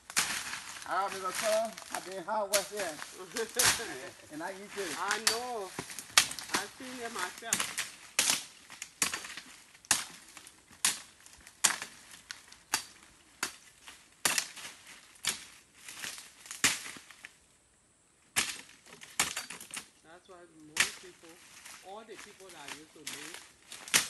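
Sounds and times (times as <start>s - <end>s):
machete chopping stems: 0.0s - 17.3s, 18.4s - 19.9s, 20.7s - 21.4s, 22.2s - 24.0s.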